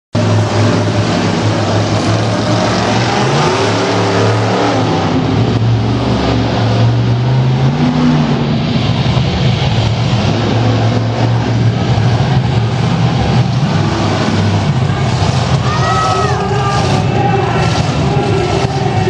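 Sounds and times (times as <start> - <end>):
monster truck engine revving: 0.2 - 19.0.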